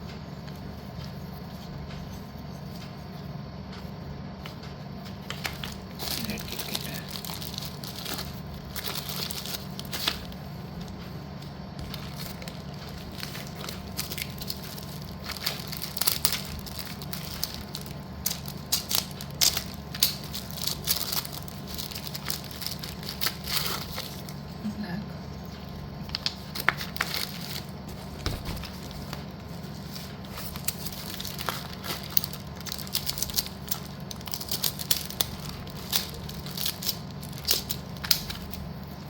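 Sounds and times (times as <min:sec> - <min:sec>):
steady low hum: 0:00.0 - 0:39.0
plastic packets crinkling: 0:05.2 - 0:24.5, 0:25.6 - 0:39.0.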